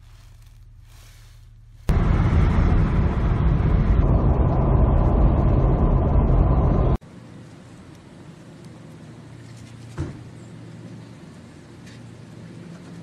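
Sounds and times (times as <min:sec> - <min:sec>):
road and wind noise inside vehicle: 0:01.8 - 0:13.0.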